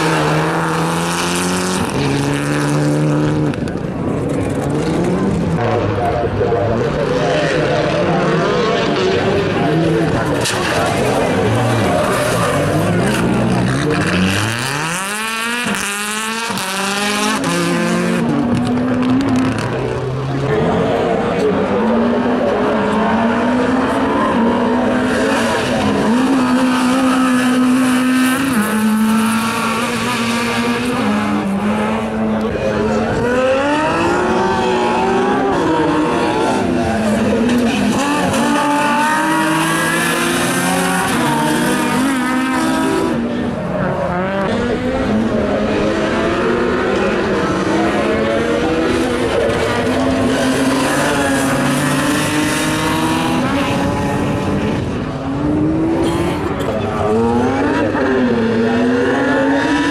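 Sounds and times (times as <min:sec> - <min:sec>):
rally car accelerating: 0:00.0 - 0:59.9.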